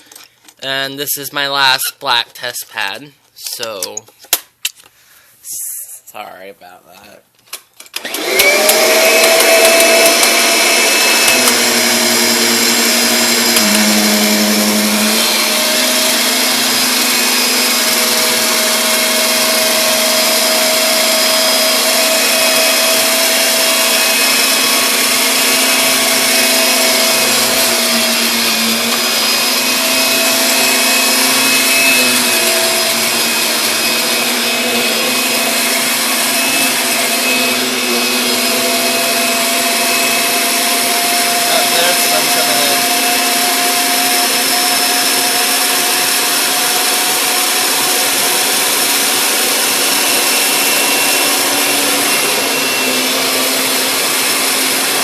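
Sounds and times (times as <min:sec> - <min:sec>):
vacuum cleaner running: 0:07.9 - 0:55.0.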